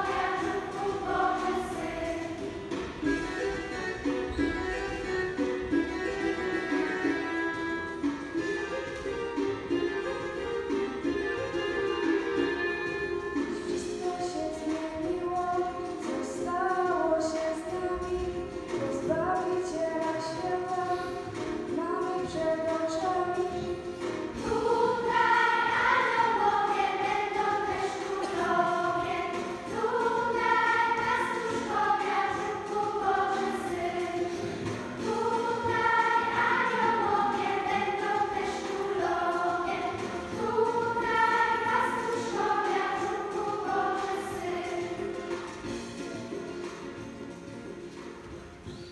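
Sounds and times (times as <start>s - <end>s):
children's choir singing: 0.0s - 46.0s.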